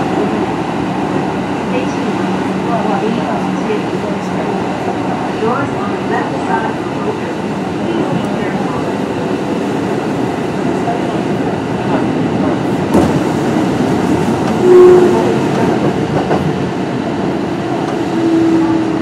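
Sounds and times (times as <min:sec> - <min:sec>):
train rolling noise: 0:00.0 - 0:19.0.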